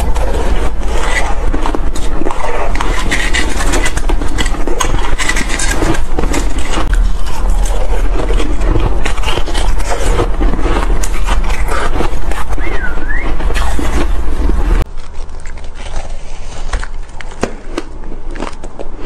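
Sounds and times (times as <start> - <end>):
fingers scraping ice in metal bowl: 0.0 - 17.4
ice being chewed: 0.0 - 19.0.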